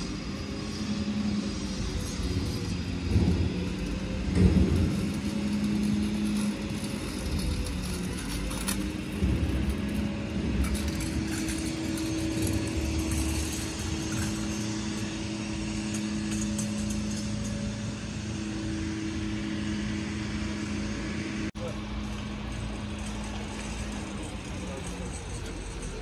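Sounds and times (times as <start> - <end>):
low rumble: 0.0 - 25.3
steady mechanical hum: 0.0 - 26.0.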